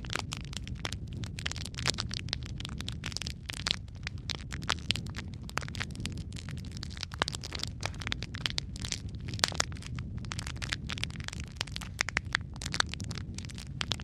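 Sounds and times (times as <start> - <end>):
burning wood popping and snapping: 0.0 - 14.0
low rumble of flame: 0.0 - 14.0.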